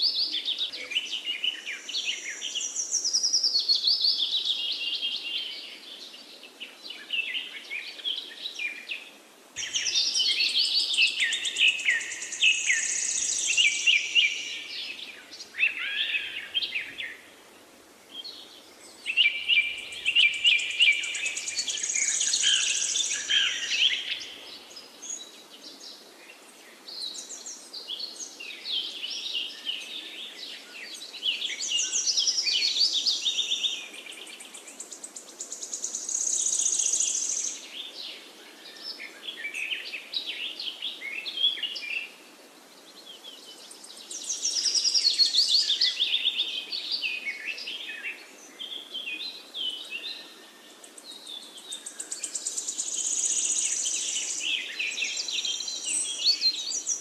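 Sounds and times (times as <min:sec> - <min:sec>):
soft background hiss: 0:00.0 - 0:57.0.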